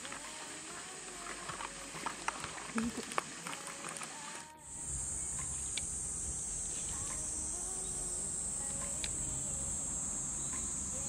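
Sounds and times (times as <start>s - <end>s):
faint ticks: 0.0s - 6.0s, 6.6s - 11.0s
high-pitched insect chorus: 0.0s - 11.0s.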